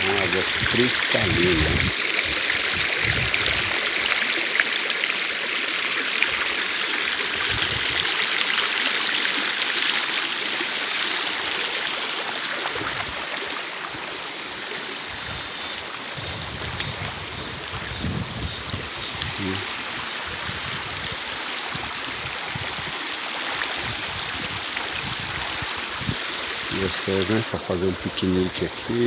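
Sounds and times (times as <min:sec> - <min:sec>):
stream rippling over stones: 0:00.0 - 0:29.0.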